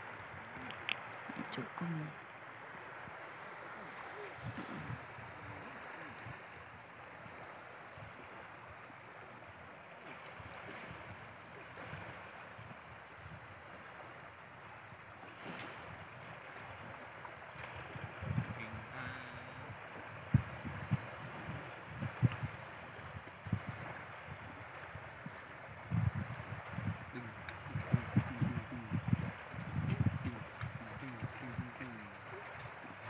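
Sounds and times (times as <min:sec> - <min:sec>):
small waves on gravel shore: 0:00.0 - 0:33.0
wind: 0:00.0 - 0:33.0.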